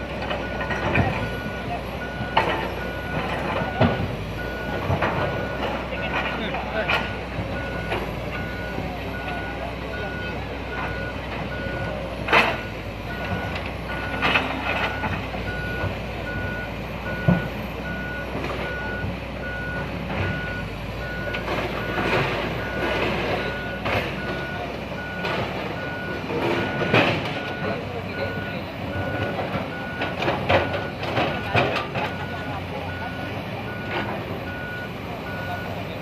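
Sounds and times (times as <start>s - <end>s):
excavator warning alarm beeping: 0.0s - 36.0s.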